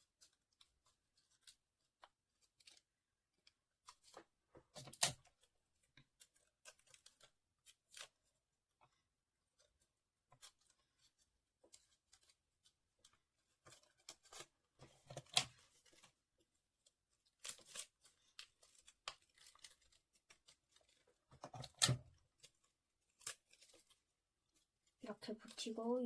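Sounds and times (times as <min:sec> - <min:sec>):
paper rustling and crinkling: 0:00.0 - 0:26.0.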